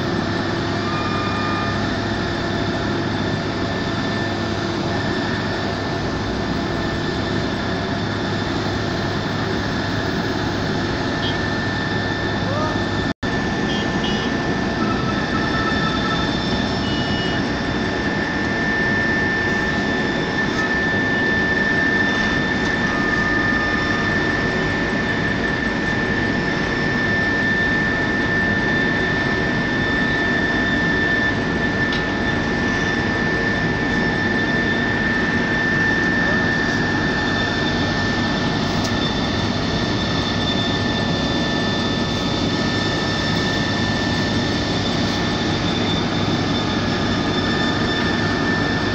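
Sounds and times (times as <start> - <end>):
high whine: 0.0 - 48.9
paving machinery engine: 0.0 - 48.9.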